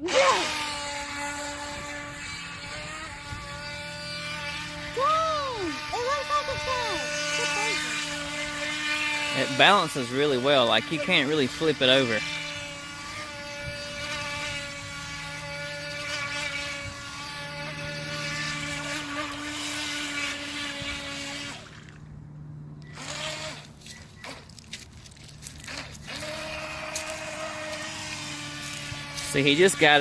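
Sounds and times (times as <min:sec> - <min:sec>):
electric boat motor whining: 0:00.0 - 0:30.0.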